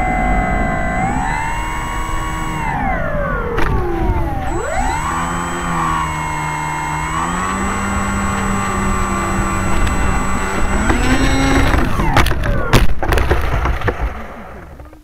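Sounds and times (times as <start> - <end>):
model plane motor running: 0.0 - 12.7.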